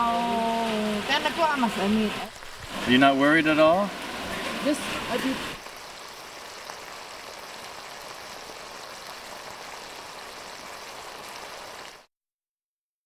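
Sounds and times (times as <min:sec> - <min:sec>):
room ambience hiss: 0:00.0 - 0:12.0.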